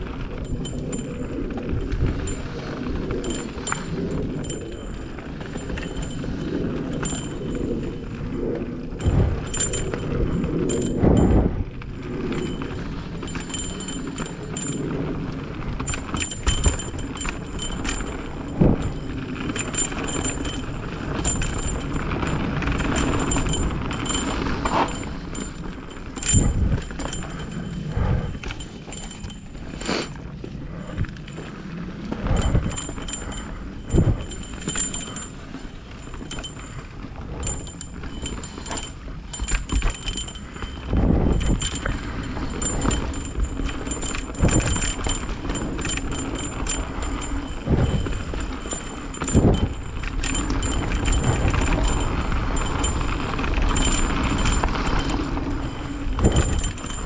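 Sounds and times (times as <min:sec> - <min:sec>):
bike knocking and rattling: 0:00.0 - 0:57.0
tyre and wind noise: 0:00.0 - 0:57.0.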